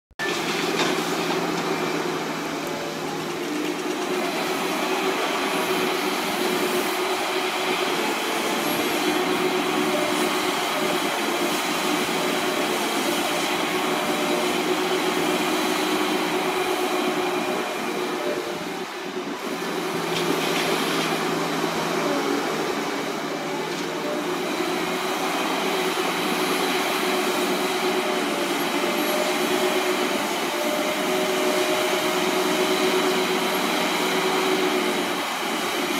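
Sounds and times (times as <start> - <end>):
heavy machinery running: 0.2 - 35.9.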